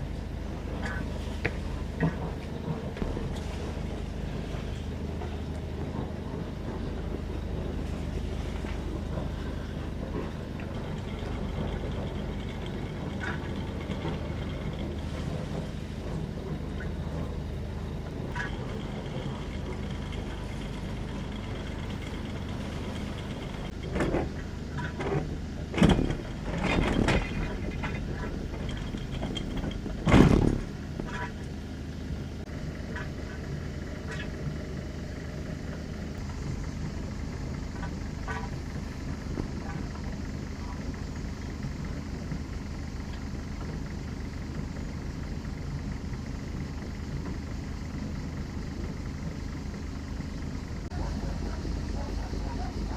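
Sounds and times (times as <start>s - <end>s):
engine humming: 0.0s - 52.9s.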